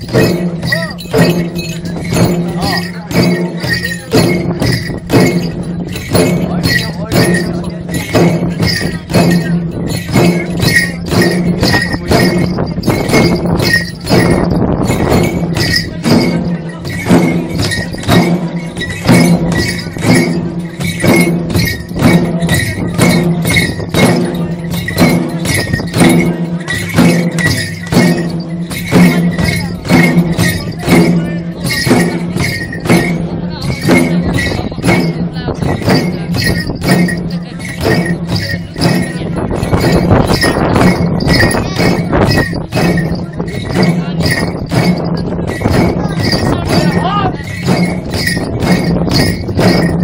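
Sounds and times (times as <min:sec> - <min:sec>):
barrel drums beaten in rhythm: 0:00.0 - 0:50.0.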